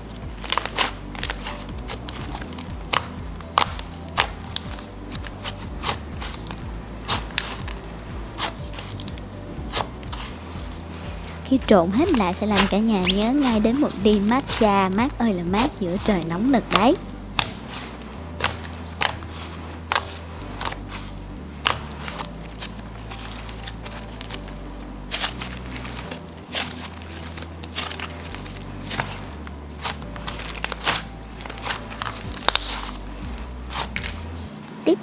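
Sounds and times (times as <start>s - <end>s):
slime clicking and crackling: 0.0s - 35.0s.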